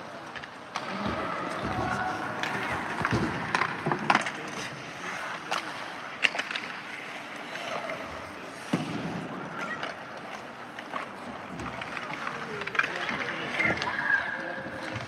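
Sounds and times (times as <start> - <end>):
skates scraping on ice: 0.1 - 15.0
pucks striking boards: 0.3 - 15.0
sticks hitting pucks: 0.3 - 15.0.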